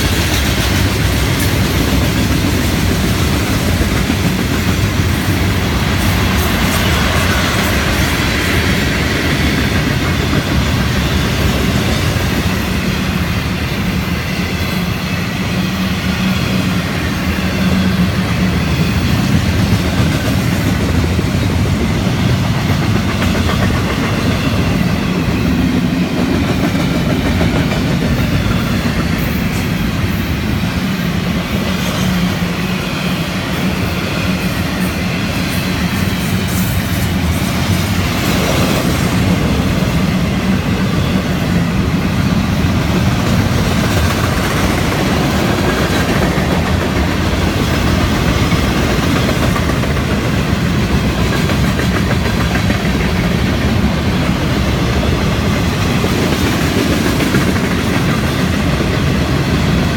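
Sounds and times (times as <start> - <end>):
train rumble: 0.0 - 59.9
train wheels clattering over rails: 0.0 - 59.9.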